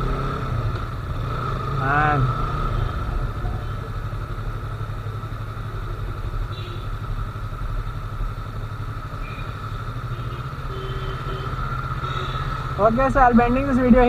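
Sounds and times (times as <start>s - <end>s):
motorcycle engine running low revs: 0.0s - 14.0s.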